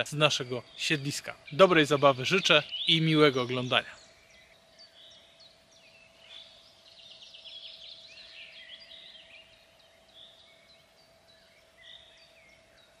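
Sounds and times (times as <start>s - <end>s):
birds chirping and singing: 0.0s - 13.0s
faint steady hum: 0.0s - 13.0s.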